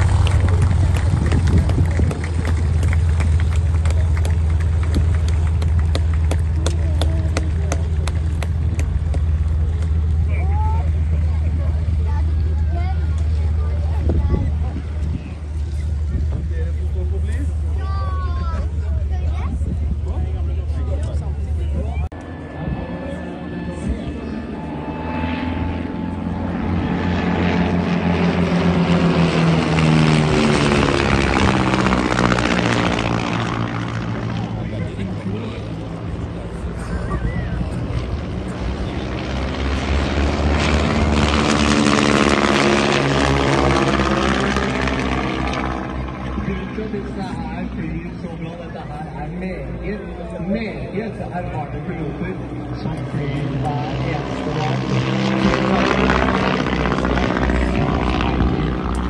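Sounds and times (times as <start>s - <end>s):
biplane engine droning: 0.0s - 59.0s.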